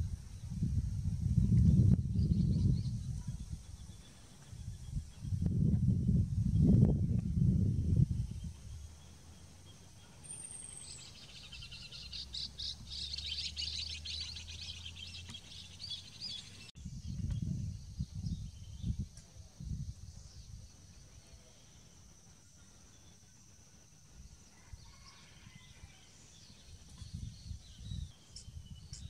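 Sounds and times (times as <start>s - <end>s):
bird singing: 1.4s - 29.0s.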